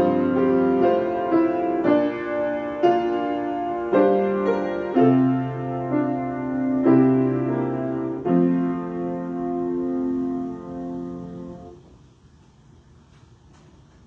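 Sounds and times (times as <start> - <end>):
piano chords: 0.0 - 11.9.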